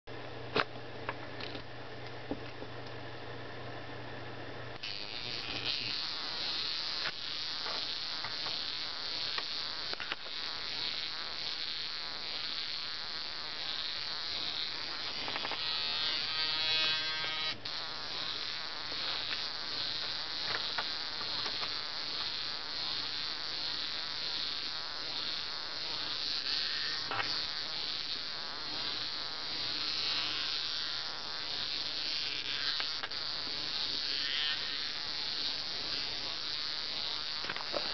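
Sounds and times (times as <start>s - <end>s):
vibrating toy robot buzzing: 4.8s - 37.9s.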